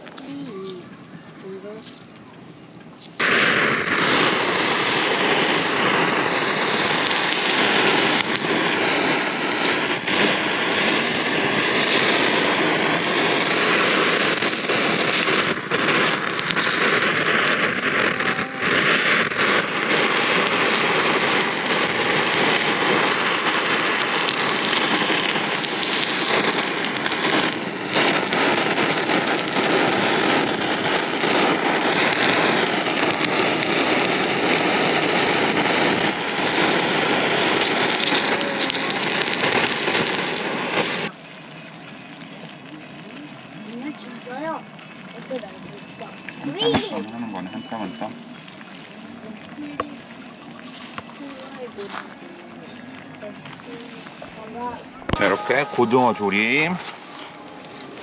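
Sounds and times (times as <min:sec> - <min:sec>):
blowtorch flame: 0:00.0 - 0:58.0
fish sizzling: 0:00.0 - 0:58.0.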